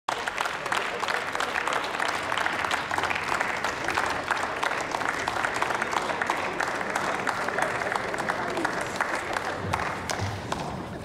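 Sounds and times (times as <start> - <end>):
group of people clapping: 0.1 - 11.0.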